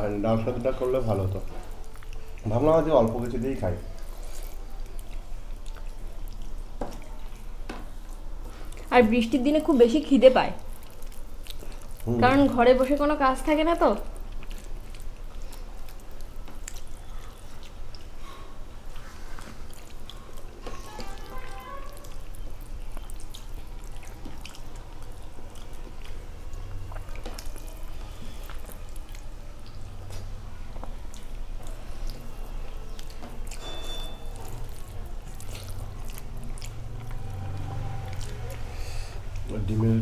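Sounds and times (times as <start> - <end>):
hands squishing wet rice: 0.0 - 39.7.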